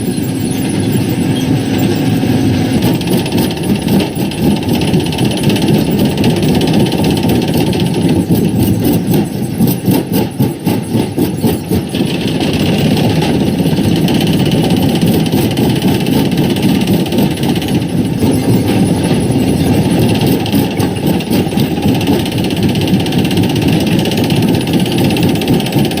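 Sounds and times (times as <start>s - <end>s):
rock crusher rumbling: 0.0s - 26.0s
rattling knocks of rock: 2.7s - 26.0s.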